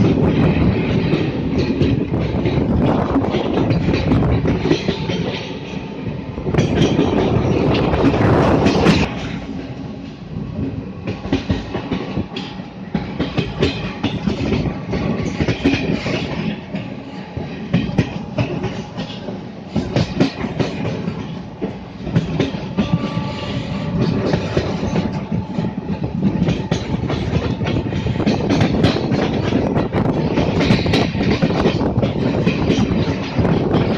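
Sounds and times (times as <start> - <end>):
train wheels clattering on rails: 0.0 - 33.9.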